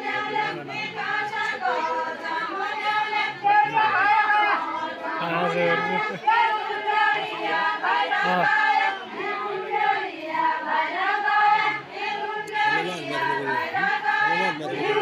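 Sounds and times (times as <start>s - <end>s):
group singing folk song: 0.0s - 15.0s.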